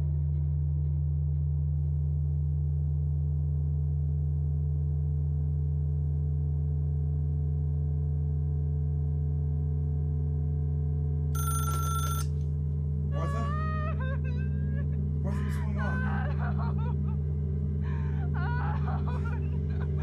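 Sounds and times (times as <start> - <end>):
ominous low drone: 0.0 - 11.3, 12.4 - 20.0.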